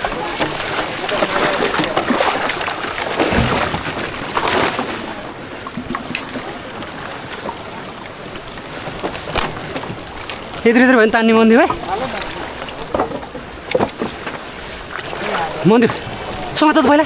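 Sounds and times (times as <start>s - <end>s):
fast-flowing river rushing: 0.0s - 17.0s
water splashing surges: 0.0s - 17.0s.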